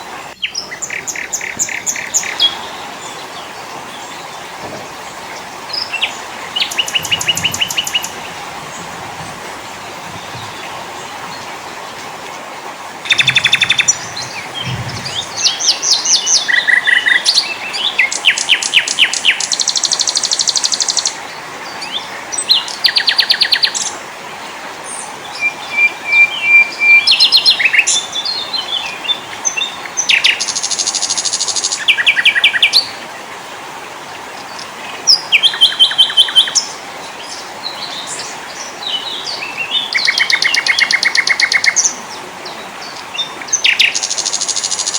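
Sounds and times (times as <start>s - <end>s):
small songbirds trilling and chirping: 0.0s - 24.0s, 24.8s - 33.0s, 33.9s - 44.9s
steady background hiss: 0.0s - 44.9s.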